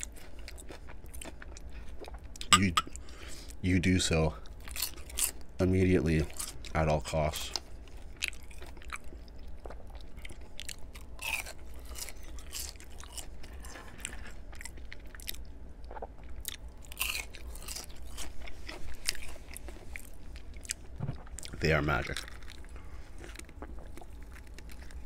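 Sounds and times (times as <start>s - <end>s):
man chewing crispy fries: 0.0s - 25.0s.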